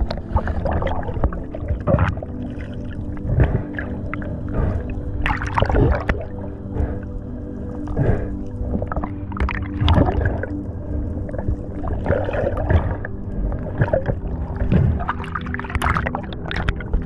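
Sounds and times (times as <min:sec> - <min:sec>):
splashes and bubble bursts: 0:00.0 - 0:17.0
steady low hum: 0:00.0 - 0:17.0
water rushing and gurgling: 0:00.0 - 0:17.0.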